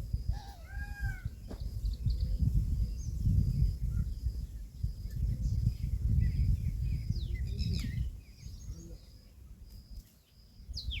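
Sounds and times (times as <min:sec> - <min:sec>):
wind rumble on microphone: 0:00.0 - 0:11.0
birds chirping: 0:00.2 - 0:11.0.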